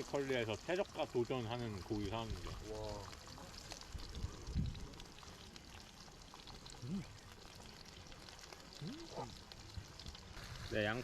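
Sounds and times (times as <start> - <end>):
meat sizzling on a grill pan: 0.0 - 11.0.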